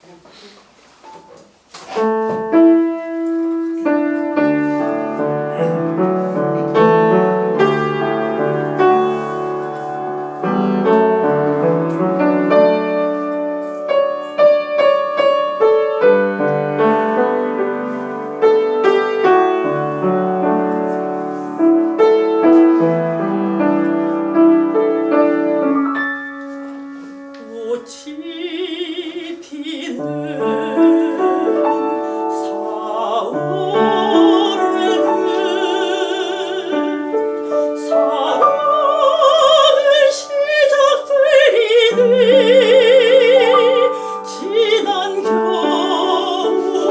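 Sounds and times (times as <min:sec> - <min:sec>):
solo piano: 0:01.0 - 0:46.9.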